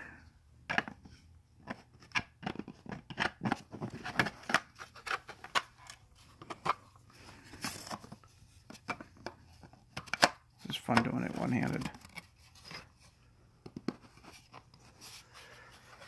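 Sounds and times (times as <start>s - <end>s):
plastic parts clicking and scraping: 0.6s - 16.0s.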